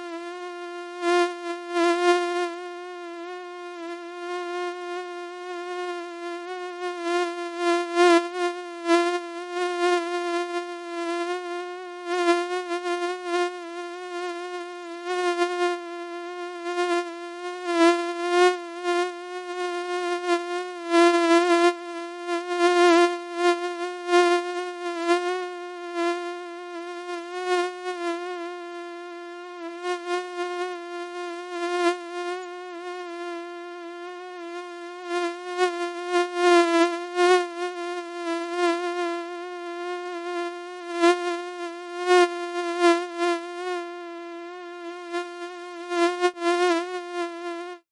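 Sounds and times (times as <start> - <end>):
mosquito buzzing: 0.0 - 47.9.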